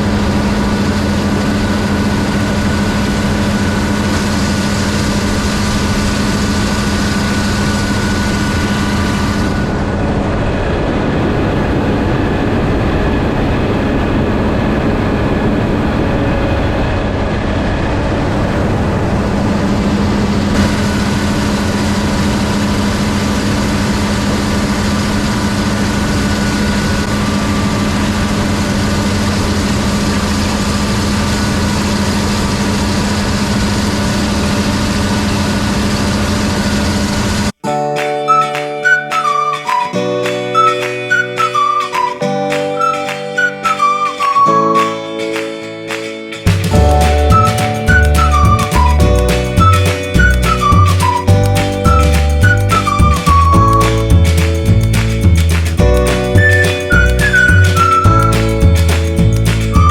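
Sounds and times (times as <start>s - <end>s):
machine hum: 0.0s - 37.6s, 46.4s - 59.9s.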